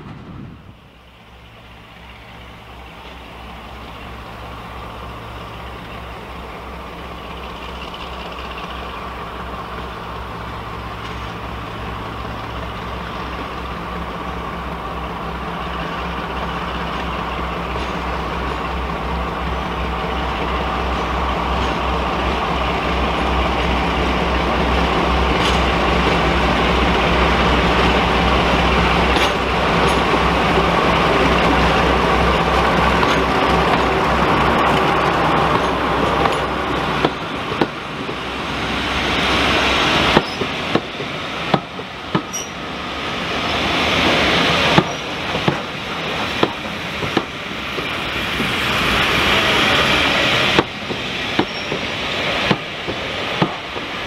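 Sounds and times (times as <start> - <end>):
diesel locomotive engines droning: 0.0 - 54.0.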